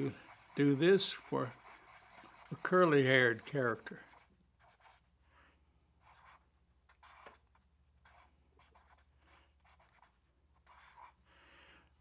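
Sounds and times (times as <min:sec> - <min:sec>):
marker scratching on paper: 0:00.0 - 0:05.1, 0:06.0 - 0:11.2.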